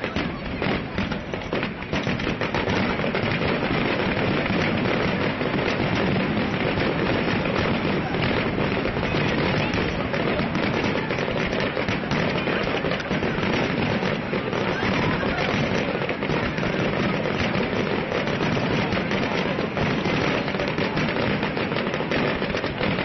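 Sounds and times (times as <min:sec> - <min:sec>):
fireworks bursts and crackling: 0:00.0 - 0:23.0.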